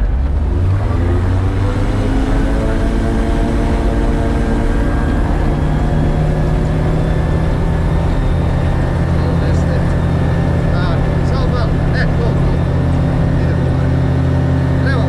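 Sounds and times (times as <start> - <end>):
gyrocopter engine running: 0.0 - 15.0.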